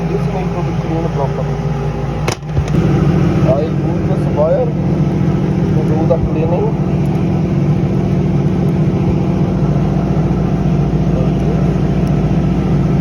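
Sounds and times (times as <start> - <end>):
machine motor droning: 0.0 - 13.0.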